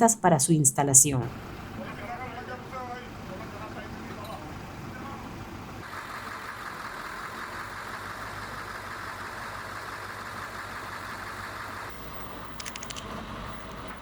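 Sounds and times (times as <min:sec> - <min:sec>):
engine idling: 0:01.3 - 0:14.0.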